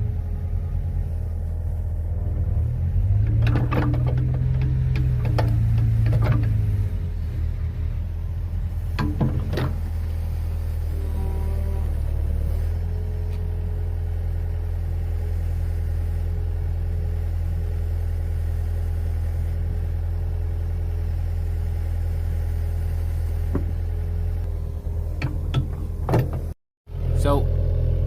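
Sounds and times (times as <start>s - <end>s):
excavator diesel engine idling: 0.0s - 28.0s.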